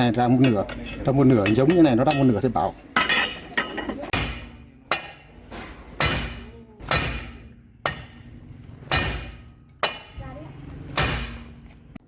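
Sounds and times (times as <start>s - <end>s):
hammer striking steel: 0.0s - 11.6s.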